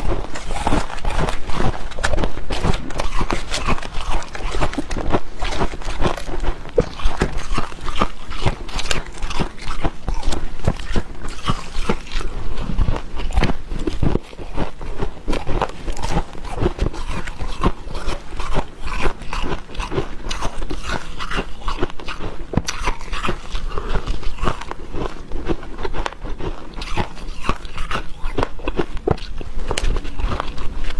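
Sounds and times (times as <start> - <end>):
frost crunching in mouth: 0.0 - 30.9.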